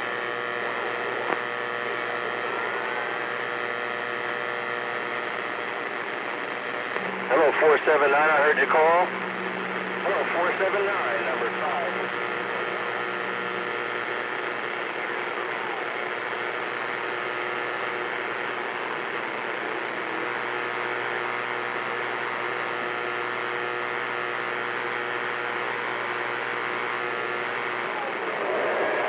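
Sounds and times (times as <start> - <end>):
radio static hiss: 0.0 - 29.0.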